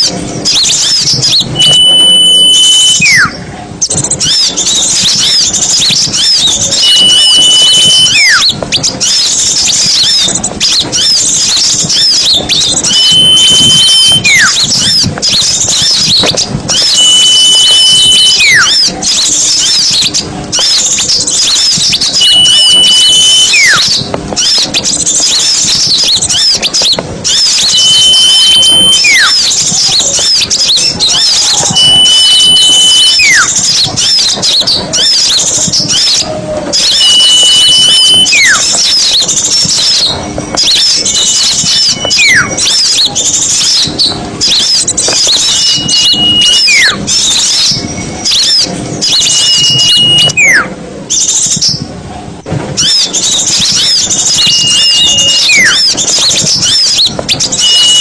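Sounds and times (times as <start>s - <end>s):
clear bird whistles: 0.0s - 51.9s, 52.8s - 58.0s
songbirds chattering: 0.0s - 52.0s, 52.8s - 58.0s.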